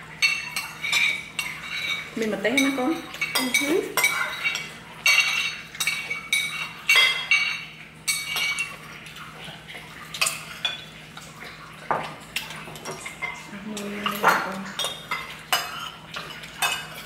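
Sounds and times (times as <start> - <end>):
cutlery clinking against plates: 0.2 - 8.9, 10.1 - 11.3, 11.9 - 17.0.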